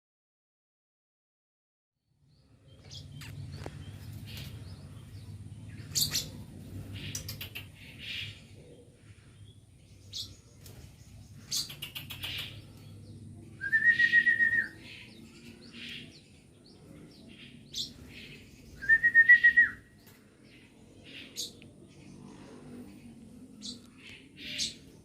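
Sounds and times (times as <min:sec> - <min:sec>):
bird chirping: 0:02.1 - 0:25.0.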